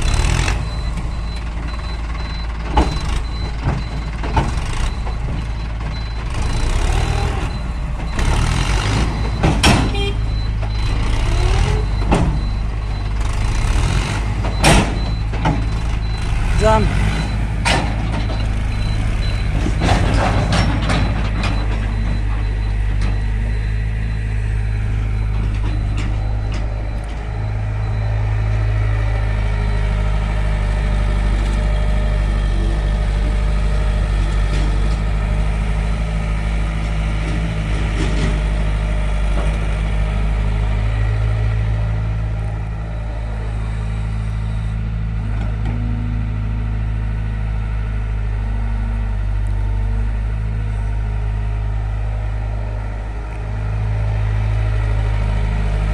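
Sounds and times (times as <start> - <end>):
diesel machinery engine running: 0.0 - 55.9.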